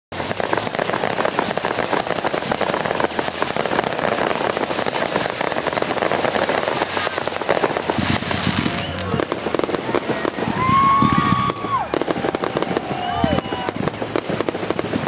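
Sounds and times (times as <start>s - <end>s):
fireworks crackling and popping: 0.1s - 15.0s.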